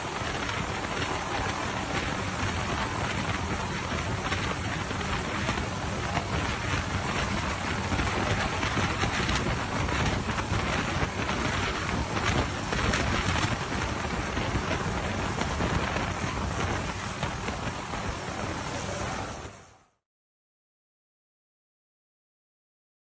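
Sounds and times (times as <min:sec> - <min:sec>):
helicopter hovering: 0:00.0 - 0:19.6.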